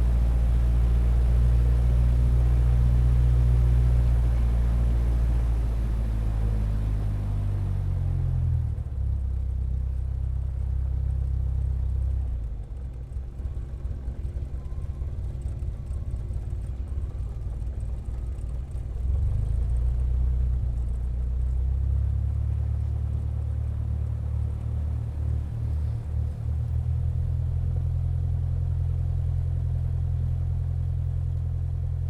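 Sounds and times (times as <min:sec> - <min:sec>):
propeller aircraft engine drone: 0:00.0 - 0:32.0.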